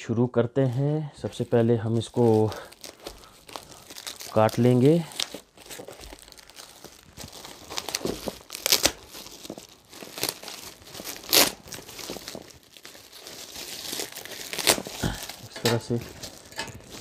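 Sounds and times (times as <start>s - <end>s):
plastic wrapping crinkling and tearing: 0.6s - 17.0s.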